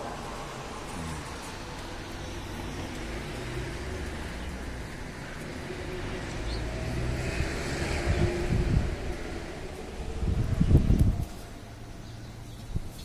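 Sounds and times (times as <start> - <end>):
wind buffeting microphone: 2.4 - 13.0.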